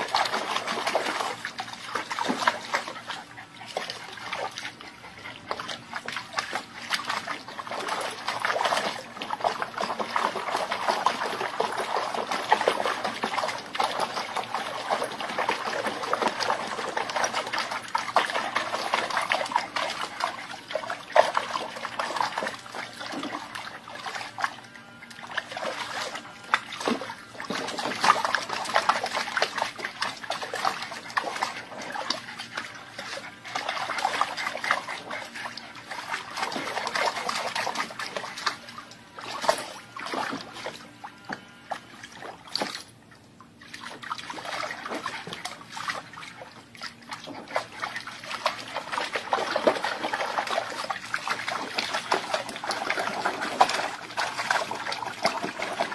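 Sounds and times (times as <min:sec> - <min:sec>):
water splashing and trickling: 0:00.0 - 0:55.9.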